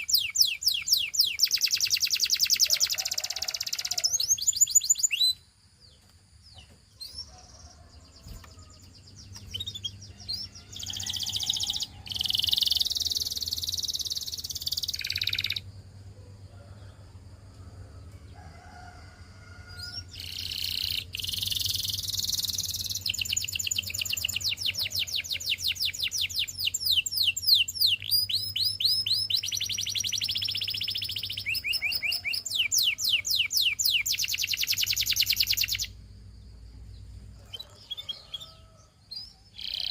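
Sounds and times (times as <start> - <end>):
canary singing trills: 0.0 - 5.4, 6.5 - 15.8, 19.8 - 36.1, 36.8 - 39.9.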